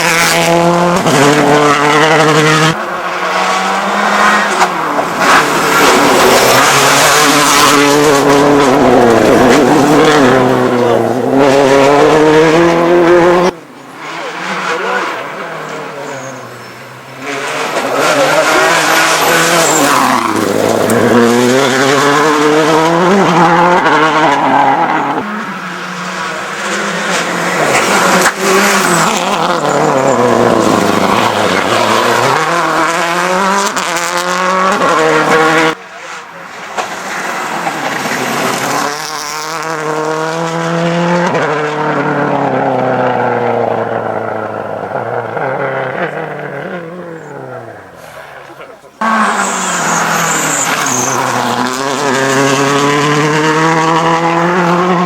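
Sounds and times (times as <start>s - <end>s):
rally car engine accelerating: 0.0s - 55.0s.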